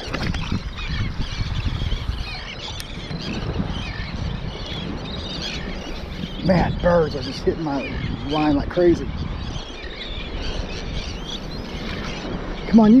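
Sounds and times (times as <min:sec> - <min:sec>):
seabirds calling: 0:00.0 - 0:13.0
surf: 0:00.0 - 0:13.0
wind: 0:00.0 - 0:13.0.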